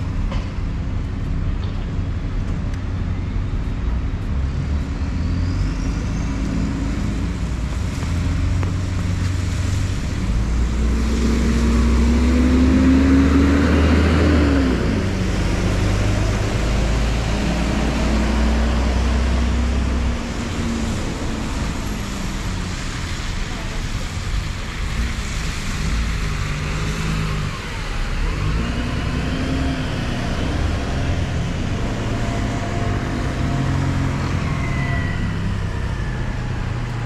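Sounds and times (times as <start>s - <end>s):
bus engine drone: 0.0s - 37.0s
steady traffic noise: 0.0s - 37.0s
tyres hissing on wet road: 0.0s - 37.0s.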